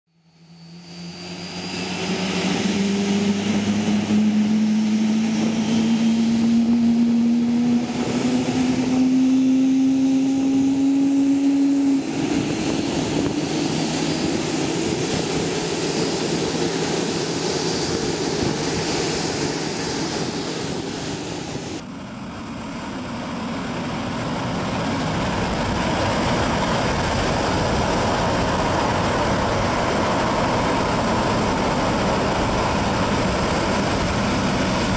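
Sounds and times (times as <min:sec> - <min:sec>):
jet engine whine rising: 0:00.1 - 0:34.9
low dull jet rumble: 0:00.2 - 0:34.9
rushing jet noise: 0:00.4 - 0:22.6, 0:23.3 - 0:34.9.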